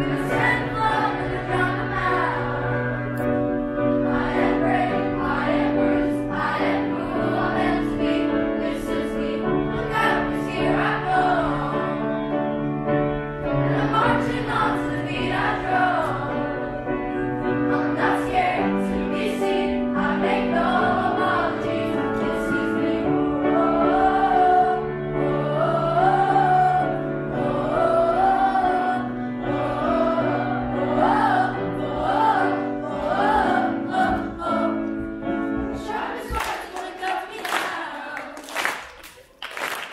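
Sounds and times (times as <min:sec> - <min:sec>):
people singing: 0:00.0 - 0:12.6, 0:13.4 - 0:39.4.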